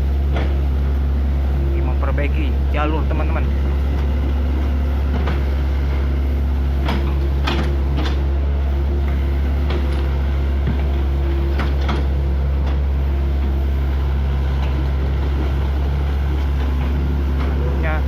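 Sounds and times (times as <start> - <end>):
excavator engine humming: 0.0 - 18.0
excavator clanks and scrapes: 0.2 - 0.8, 3.4 - 18.0.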